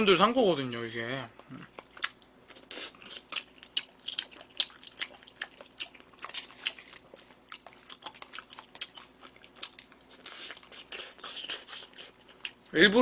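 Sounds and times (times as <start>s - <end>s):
chewing: 1.3s - 12.7s.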